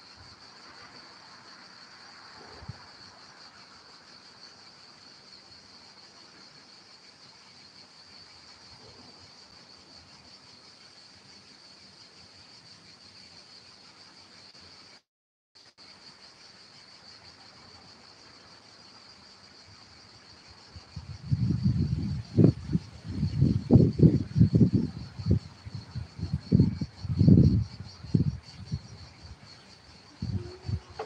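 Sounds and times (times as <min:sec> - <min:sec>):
insects chirring: 0:00.0 - 0:15.0, 0:15.6 - 0:31.0.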